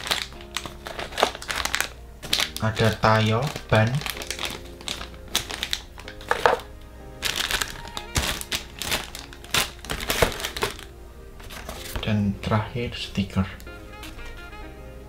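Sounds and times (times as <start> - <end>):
plastic bags crinkling: 0.0 - 12.1
background music: 0.0 - 15.0.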